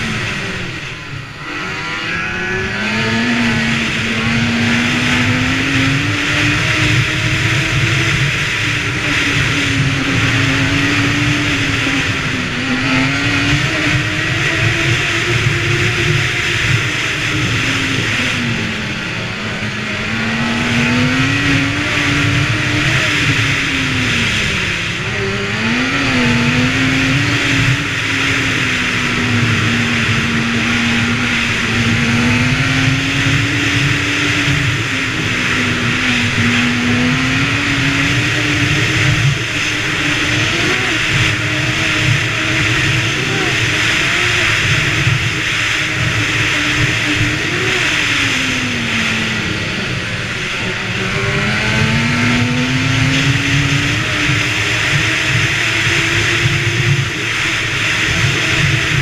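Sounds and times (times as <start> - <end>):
snowbike engine running: 0.0 - 59.0
wind and track hiss: 0.0 - 59.0.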